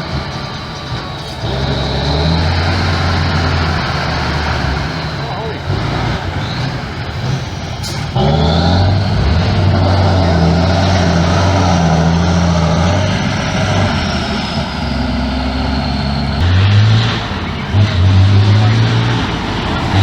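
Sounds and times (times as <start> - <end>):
truck engine running hard: 0.0 - 20.0.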